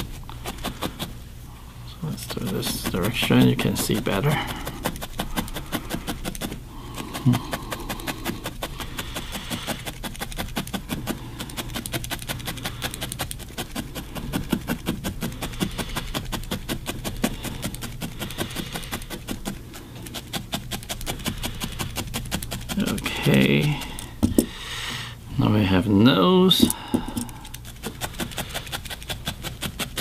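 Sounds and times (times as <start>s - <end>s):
felting needle poking wool: 0.0s - 1.2s, 2.1s - 24.5s, 26.5s - 30.0s.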